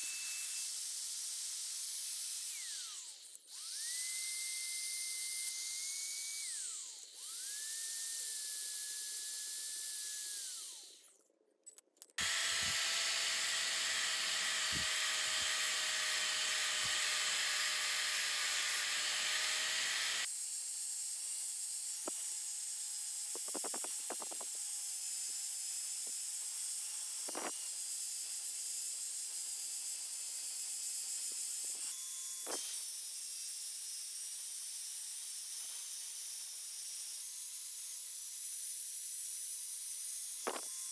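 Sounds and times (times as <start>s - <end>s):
power tool motor whining: 0.0s - 11.2s, 12.2s - 20.3s, 21.2s - 40.9s
angle grinder grinding metal: 1.4s - 11.2s, 12.0s - 20.3s, 21.9s - 40.9s.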